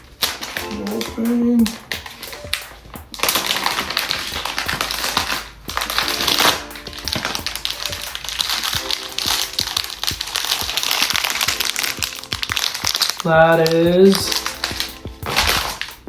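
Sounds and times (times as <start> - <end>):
plastic packaging crinkling: 0.0 - 16.0
soft background music: 0.0 - 16.0.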